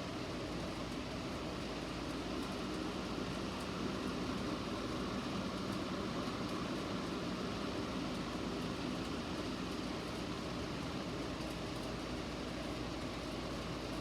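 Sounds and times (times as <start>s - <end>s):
steady rushing fan noise: 0.0s - 14.0s.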